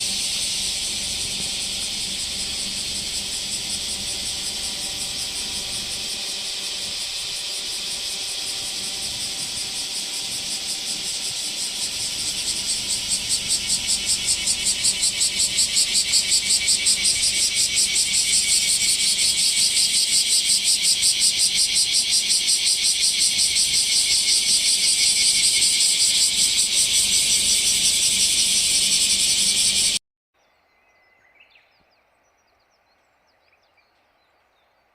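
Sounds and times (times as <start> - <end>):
cicadas buzzing: 0.0 - 30.0.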